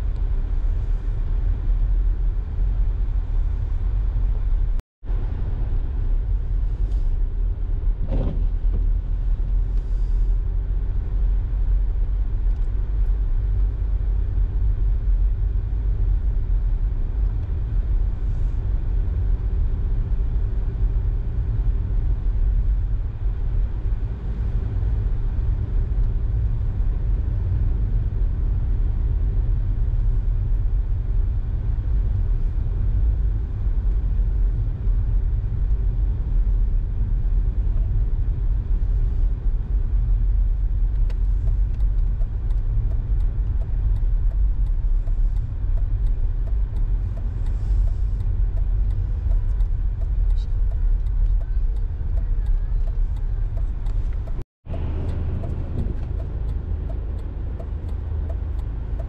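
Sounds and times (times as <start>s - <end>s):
car driving on road: 0.0s - 59.0s.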